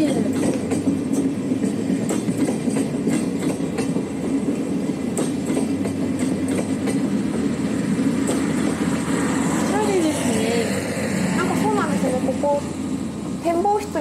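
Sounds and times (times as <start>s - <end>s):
train hum: 0.0s - 14.0s
wheels clicking on rails: 0.0s - 14.0s.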